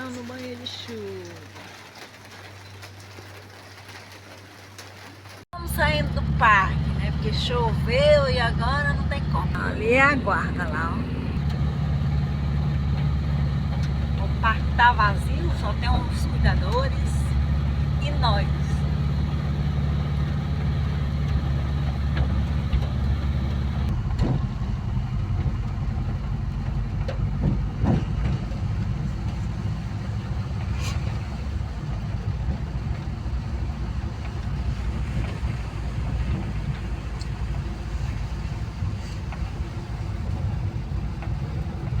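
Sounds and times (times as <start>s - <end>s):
van engine running: 0.0s - 42.0s.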